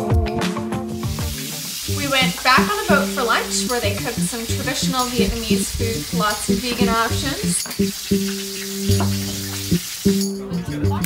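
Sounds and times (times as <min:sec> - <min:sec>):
rhythmic instrumental music: 0:00.0 - 0:11.0
food sizzling in a pan: 0:00.9 - 0:10.5.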